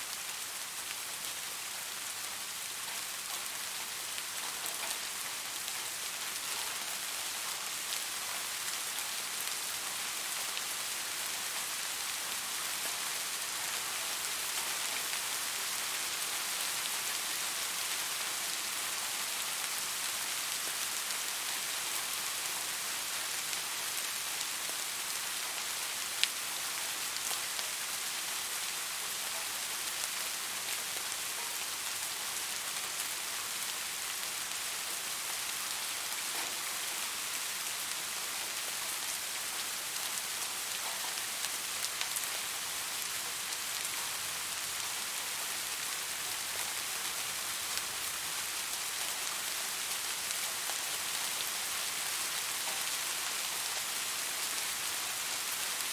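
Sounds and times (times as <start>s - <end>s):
soft rain pattering: 0.0s - 55.9s.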